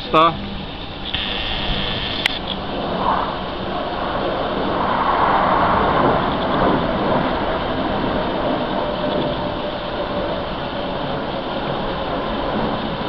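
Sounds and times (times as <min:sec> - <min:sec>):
aircraft engine flying overhead: 0:00.0 - 0:13.0.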